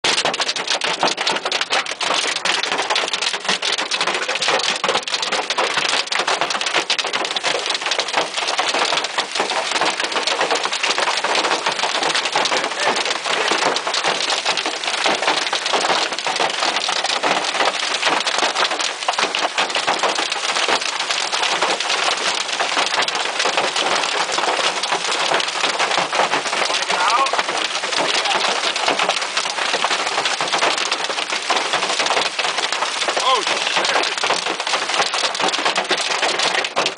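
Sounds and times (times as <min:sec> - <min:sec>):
hailstones clattering: 0:00.0 - 0:36.9
heavy rain rushing: 0:00.0 - 0:36.9.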